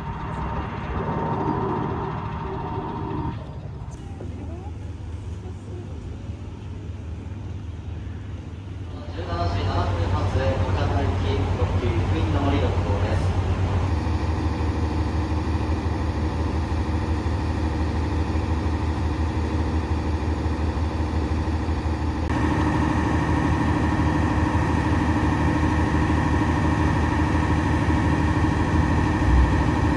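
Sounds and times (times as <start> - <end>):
diesel train engines idling: 0.0 - 29.9
steady whining tones: 0.0 - 29.9.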